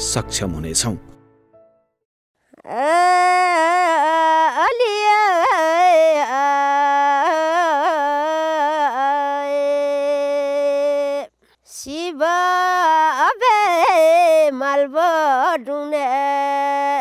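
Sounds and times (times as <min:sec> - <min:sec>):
person singing unaccompanied: 0:02.5 - 0:17.0.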